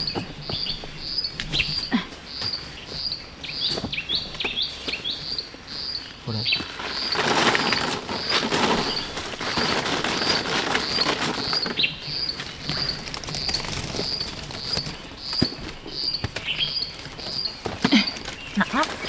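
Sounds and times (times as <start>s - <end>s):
bird chirping: 0.0s - 19.0s
rustling vegetation: 0.0s - 19.0s.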